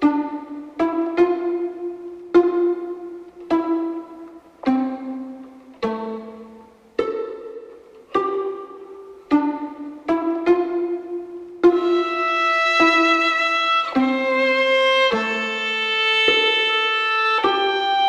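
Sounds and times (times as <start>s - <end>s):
plucked string notes: 0.0s - 18.0s.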